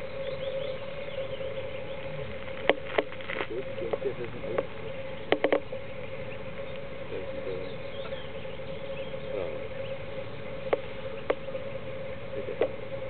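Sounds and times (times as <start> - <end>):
goslings peeping: 0.0 - 13.0
steady hum: 0.0 - 13.0.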